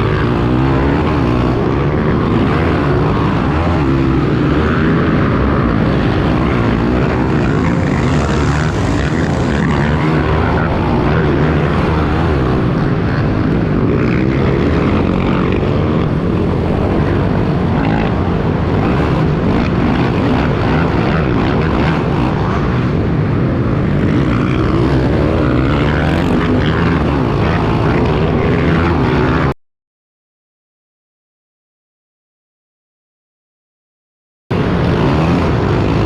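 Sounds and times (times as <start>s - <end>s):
pit bike engine revving: 0.0s - 29.6s, 34.5s - 36.0s.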